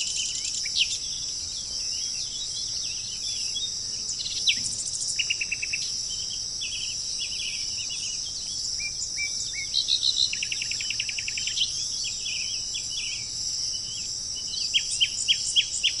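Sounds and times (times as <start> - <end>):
birds chirping and whistling: 0.0 - 16.0
high-pitched insect drone: 0.0 - 16.0.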